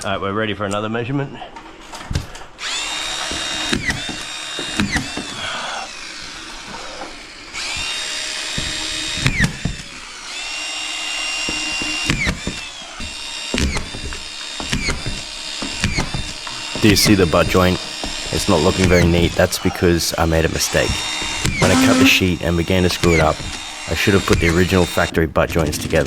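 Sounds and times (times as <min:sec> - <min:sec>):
power drill whining: 0:01.6 - 0:25.1.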